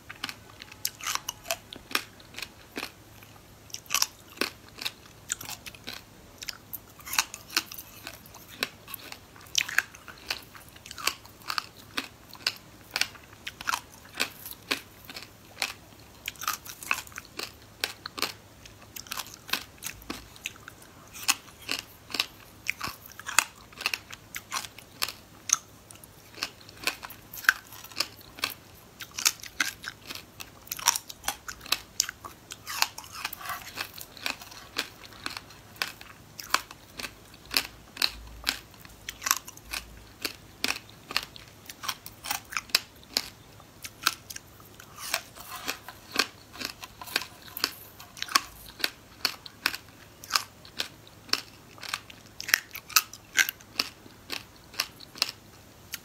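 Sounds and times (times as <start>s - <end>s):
crunchy chewing of frozen fruit: 0.0s - 56.0s.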